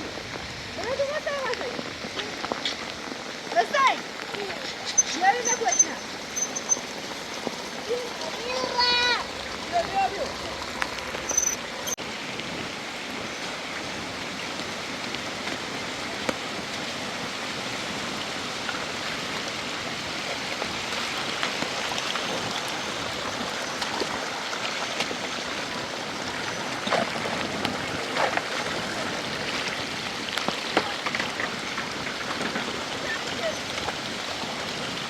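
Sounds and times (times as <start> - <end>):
heavy rain and running water: 0.0 - 35.0
water drips and splashes: 0.0 - 35.0.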